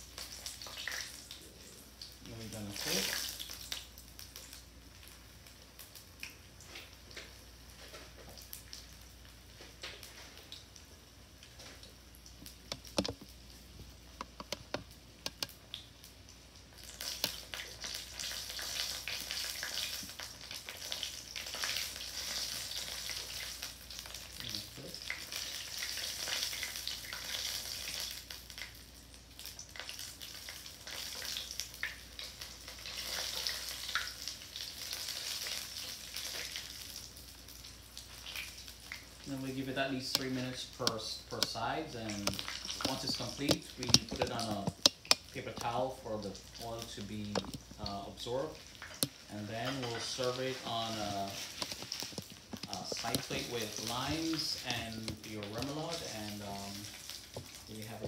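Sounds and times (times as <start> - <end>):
fritters sizzling in oil: 0.0 - 58.0.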